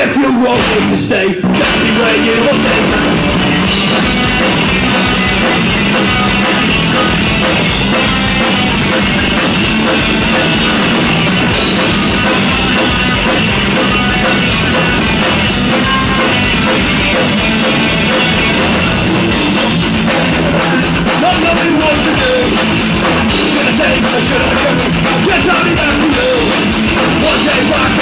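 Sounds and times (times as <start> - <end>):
rock band playing live: 0.0 - 28.0.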